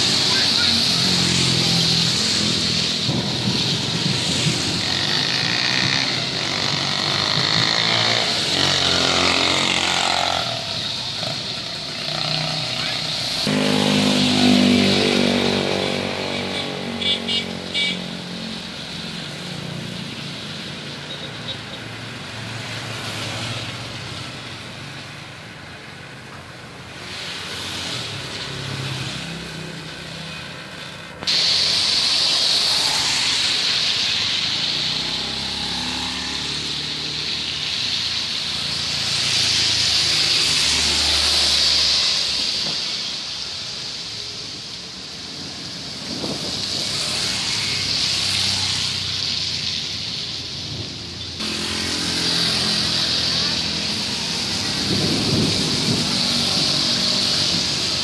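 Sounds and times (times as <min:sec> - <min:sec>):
heavy rain on road: 0:00.0 - 0:58.0
traffic engine hum: 0:00.0 - 0:58.0
tyres swishing on wet road: 0:00.0 - 0:58.0.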